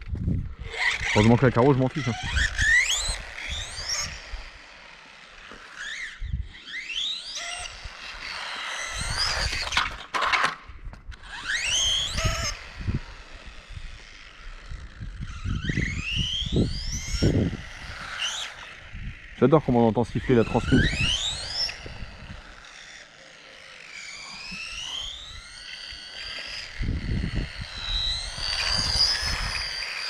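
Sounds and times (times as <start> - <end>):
toy car electric motor whining: 0.0 - 30.0.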